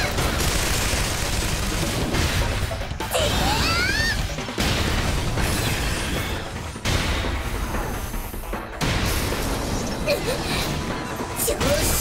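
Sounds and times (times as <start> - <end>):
action background music: 0.0 - 12.0.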